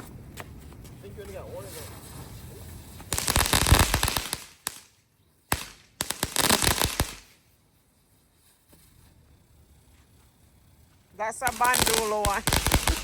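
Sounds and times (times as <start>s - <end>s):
fireworks crackling pops: 0.0s - 7.6s, 10.0s - 13.0s.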